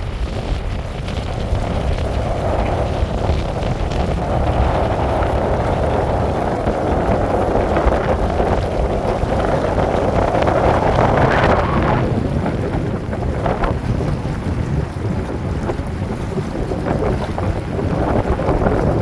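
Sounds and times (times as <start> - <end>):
steady rain: 0.0 - 19.0
wind buffeting microphone: 0.0 - 19.0.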